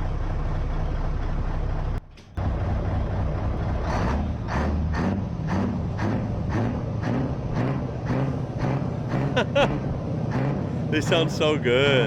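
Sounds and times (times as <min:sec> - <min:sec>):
diesel truck engine exhaust: 0:00.0 - 0:12.0.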